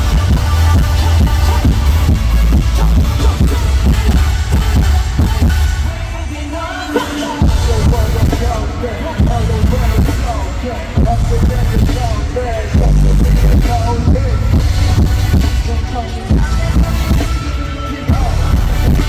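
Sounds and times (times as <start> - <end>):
pop concert music: 0.0 - 19.0.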